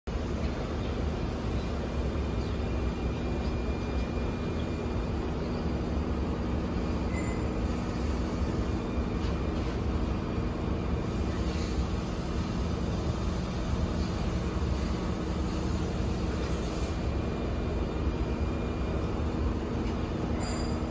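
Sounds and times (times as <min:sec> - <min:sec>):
faint hum: 0:00.1 - 0:20.9
low outdoor rumble: 0:00.1 - 0:20.9.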